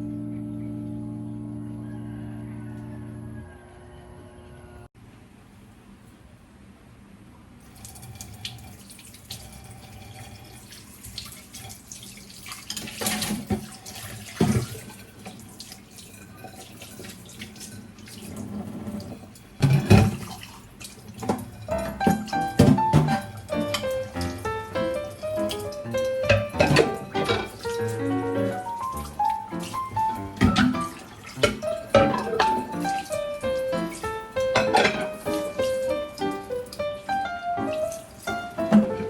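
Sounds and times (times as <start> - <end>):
tap water running into sink: 7.7 - 39.0.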